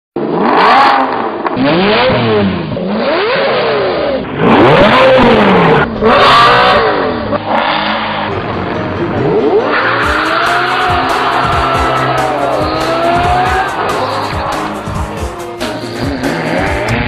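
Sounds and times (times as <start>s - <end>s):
car engines revving hard: 0.2s - 15.2s, 15.8s - 17.0s.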